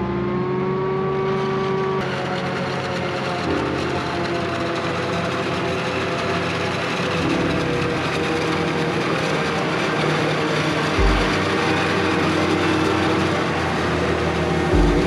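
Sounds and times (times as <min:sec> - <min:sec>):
heavy engine drone: 0:00.0 - 0:15.0
whirring chopping machinery: 0:01.3 - 0:15.0.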